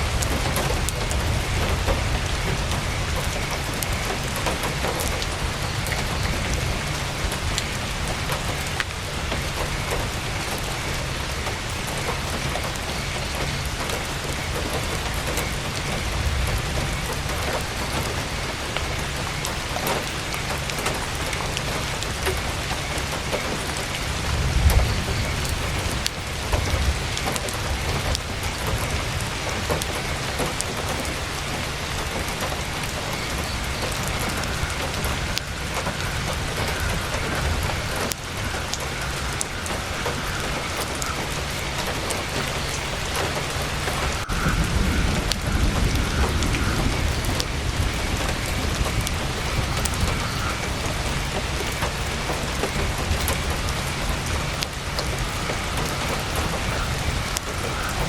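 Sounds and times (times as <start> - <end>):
heavy rain drumming on tent: 0.0 - 58.0.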